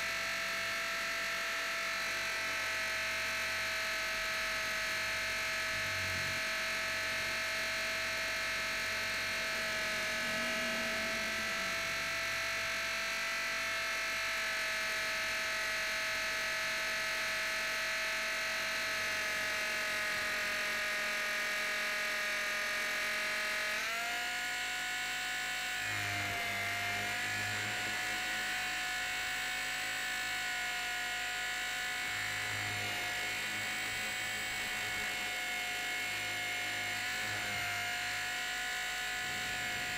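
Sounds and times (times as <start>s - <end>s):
electric helicopter motor whining: 0.0s - 39.9s.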